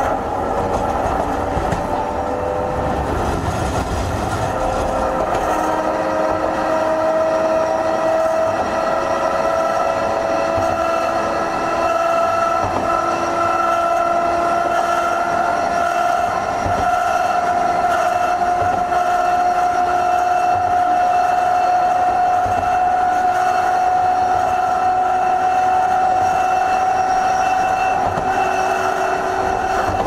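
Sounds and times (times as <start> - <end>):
tram motors whining: 0.0 - 30.0.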